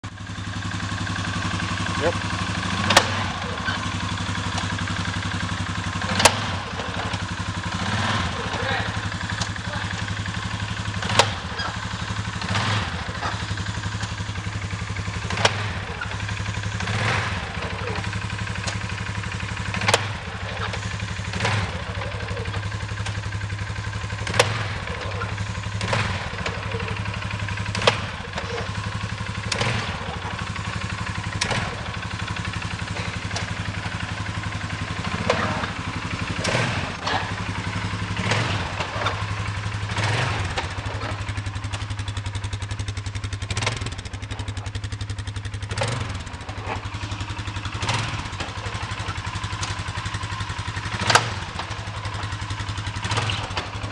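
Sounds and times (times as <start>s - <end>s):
atv engine running: 0.0s - 53.9s
sharp transmission clacks: 0.3s - 53.9s.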